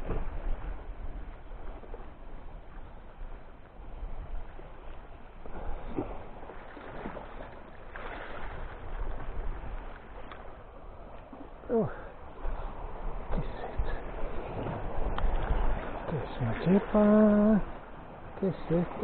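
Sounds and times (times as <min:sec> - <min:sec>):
water lapping against a boat: 0:00.0 - 0:19.0
wind on microphone: 0:00.0 - 0:19.0.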